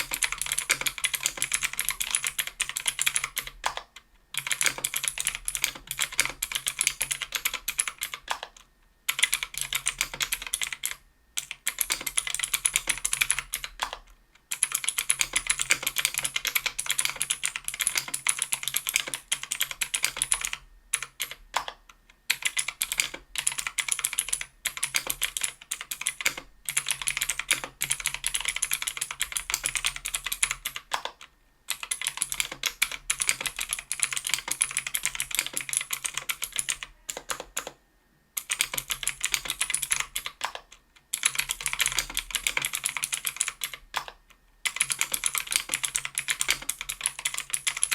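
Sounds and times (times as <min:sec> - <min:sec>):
fast keyboard typing clicks: 0:00.0 - 0:37.8, 0:38.4 - 0:47.9.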